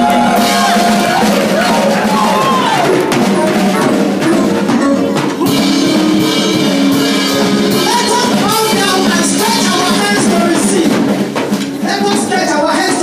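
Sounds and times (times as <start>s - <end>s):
drums: 0.0s - 13.0s
guitar: 0.0s - 13.0s
praise music with singing: 0.0s - 13.0s.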